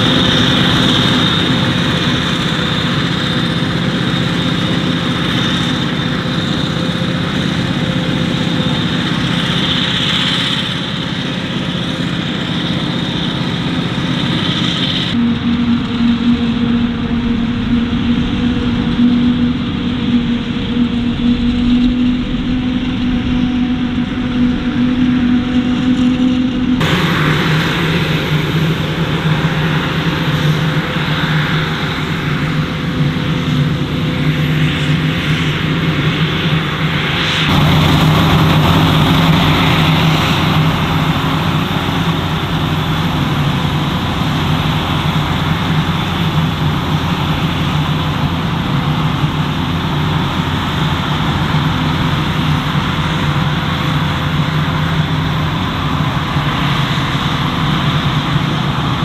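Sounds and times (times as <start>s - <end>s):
loud machinery humming: 0.0s - 59.0s.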